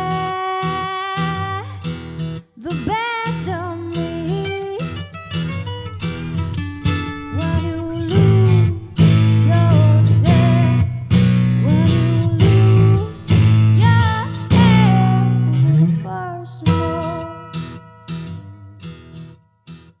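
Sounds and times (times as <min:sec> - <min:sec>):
guitar song: 0:00.0 - 0:20.0.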